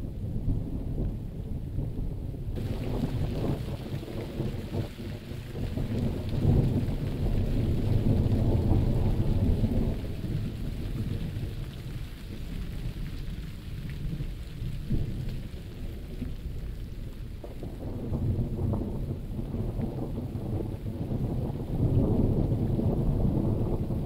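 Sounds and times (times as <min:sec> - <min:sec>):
low rumble of thunder: 0:00.0 - 0:24.0
steady rain: 0:00.0 - 0:24.0.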